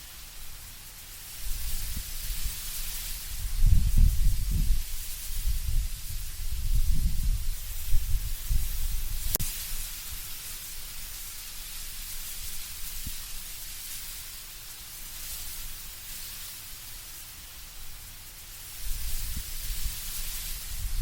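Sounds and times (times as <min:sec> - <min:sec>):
leaves rustling: 0:00.0 - 0:21.0
wind through trees: 0:00.0 - 0:21.0.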